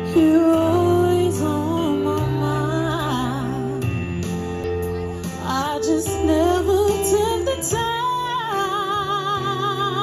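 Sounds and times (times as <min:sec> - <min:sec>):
woman singing: 0:00.0 - 0:04.1, 0:05.4 - 0:10.0
instrumental backing chords and bass: 0:00.0 - 0:10.0.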